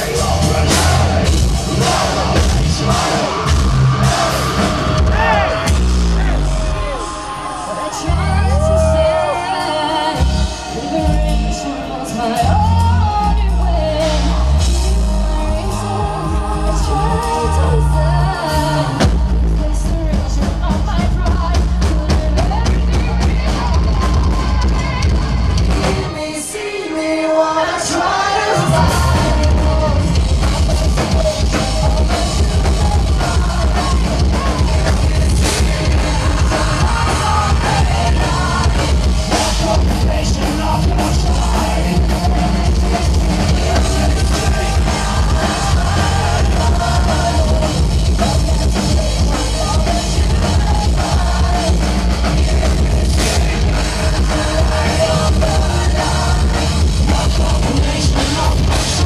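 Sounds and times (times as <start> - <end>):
metal band playing live: 0.0 - 26.8, 27.8 - 59.0
person singing: 6.3 - 59.0.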